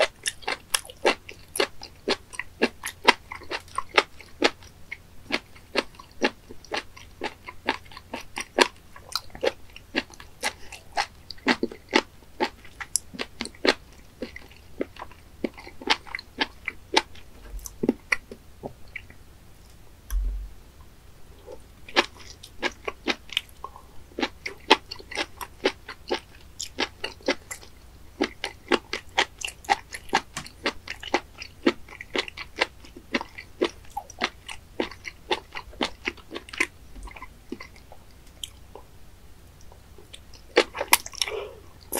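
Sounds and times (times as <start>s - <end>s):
wet crunchy chewing: 0.0s - 19.2s, 24.2s - 38.8s.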